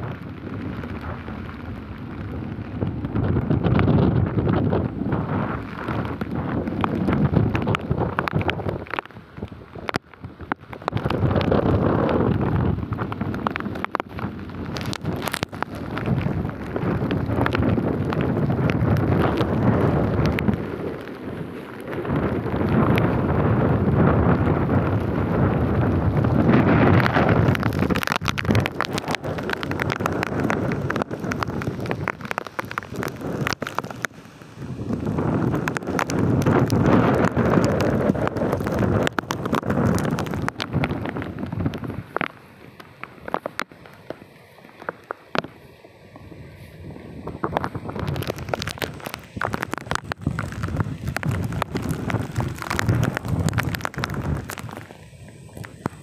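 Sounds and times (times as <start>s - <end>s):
sharp crackles: 0.0s - 56.0s
wind buffeting microphone: 0.0s - 56.0s.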